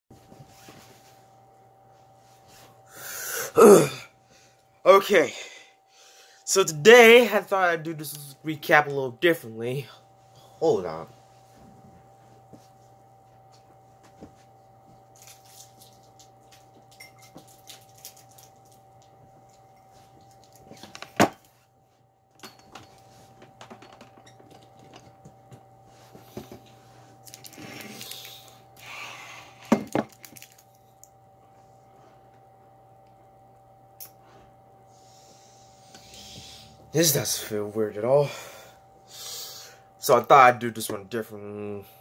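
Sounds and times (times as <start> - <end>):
low hum: 0.1 - 42.0.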